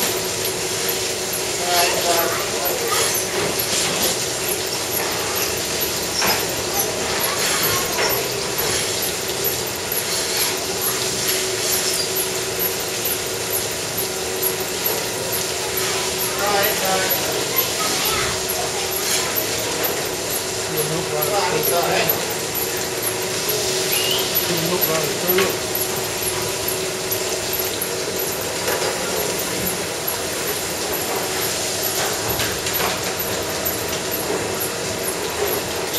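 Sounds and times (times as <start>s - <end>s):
milking machinery hum: 0.0s - 35.9s.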